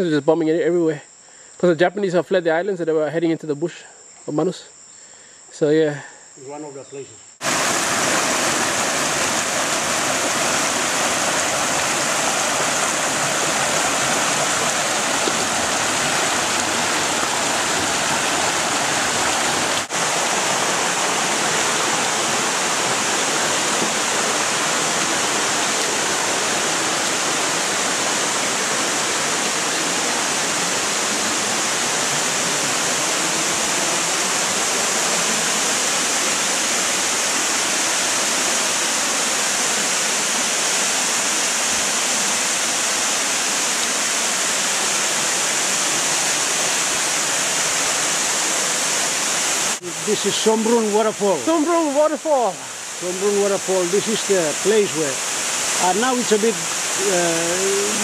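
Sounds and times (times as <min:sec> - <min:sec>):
waterfall rushing: 0:07.4 - 0:58.0.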